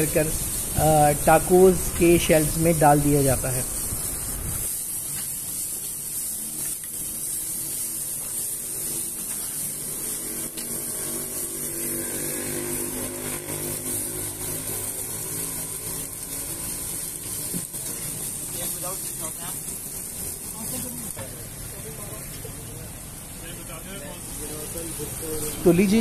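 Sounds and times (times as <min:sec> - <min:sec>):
chicken sizzling on a griddle: 0:00.0 - 0:26.0.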